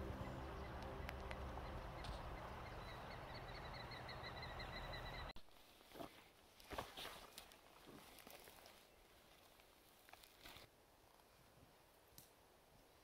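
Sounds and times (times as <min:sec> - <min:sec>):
steady outdoor hiss: 0:00.0 - 0:06.6, 0:08.1 - 0:13.0.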